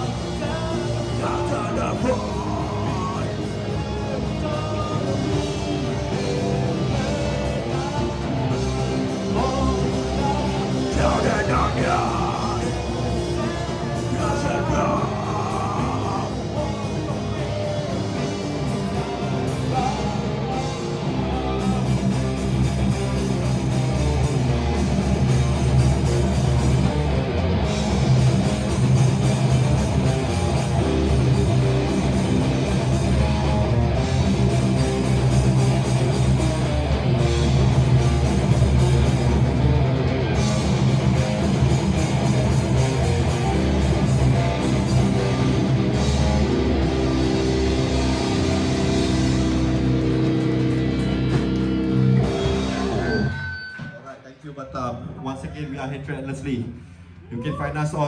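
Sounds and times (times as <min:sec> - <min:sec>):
loud electric guitars: 0:00.0 - 0:55.1
drums: 0:00.0 - 0:58.0.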